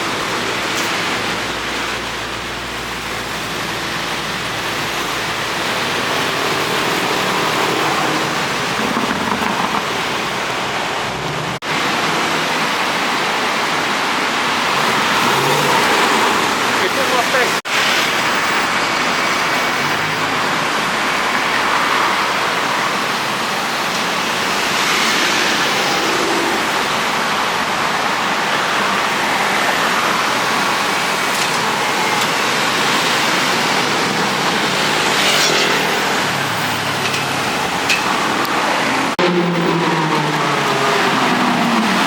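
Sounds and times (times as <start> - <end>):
city street traffic: 0.0 - 42.0.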